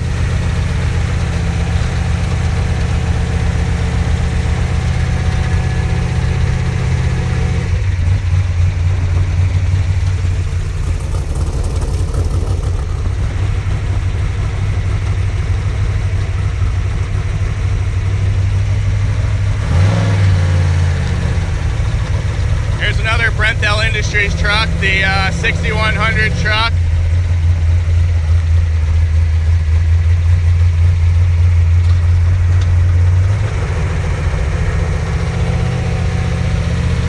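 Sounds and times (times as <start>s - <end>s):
truck engine rumbling: 0.0s - 37.0s.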